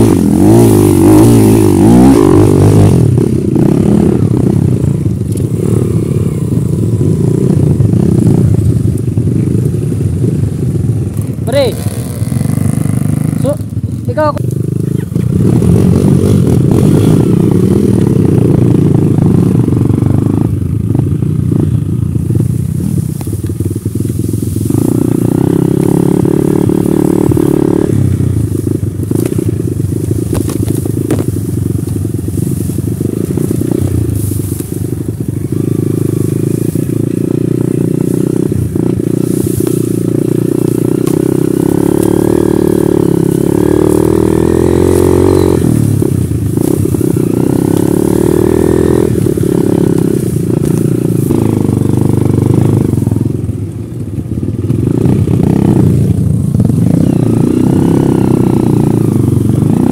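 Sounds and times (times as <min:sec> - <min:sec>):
dirt bike engine revving: 0:00.0 - 0:53.3, 0:54.4 - 0:59.9.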